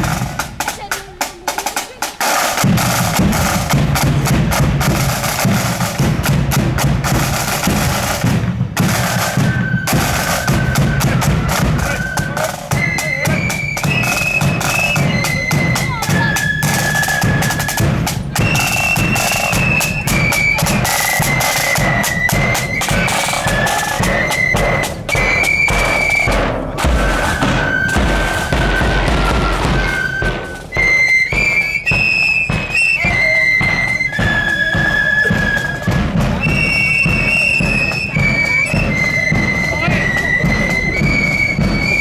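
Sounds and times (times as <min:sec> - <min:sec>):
drum strokes: 0:00.0 - 0:42.0
flutes playing melody: 0:02.2 - 0:42.0.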